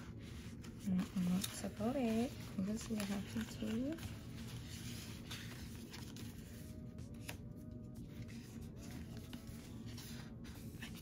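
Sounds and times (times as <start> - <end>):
low steady background hum: 0.0 - 11.0
paper rustling and shuffling: 0.0 - 11.0.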